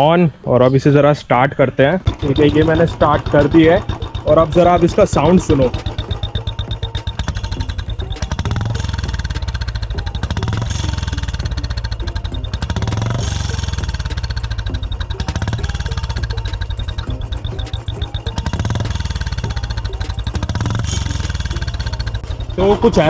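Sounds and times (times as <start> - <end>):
exhaust whistle: 2.0 - 23.0
motorcycle engine exhaust beat: 2.0 - 23.0.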